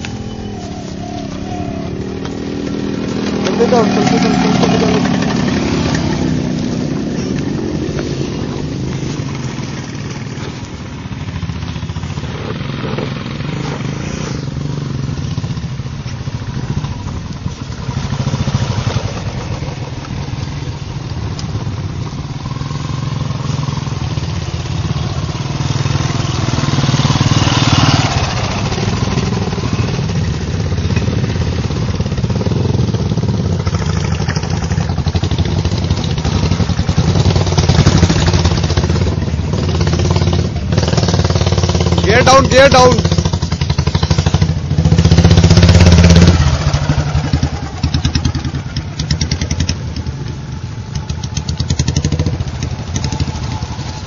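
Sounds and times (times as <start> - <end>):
motorcycle engines droning: 0.0 - 54.0.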